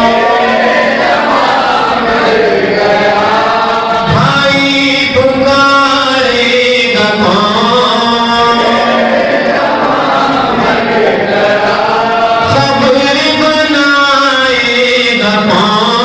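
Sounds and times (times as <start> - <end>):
voices chanting a lament: 0.0 - 16.0.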